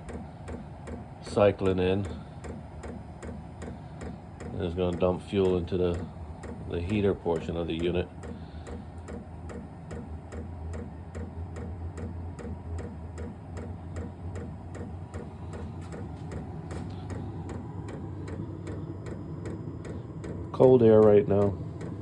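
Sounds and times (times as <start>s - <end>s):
fuel pump ticking: 0.0s - 22.0s
steady low hum: 0.0s - 22.0s.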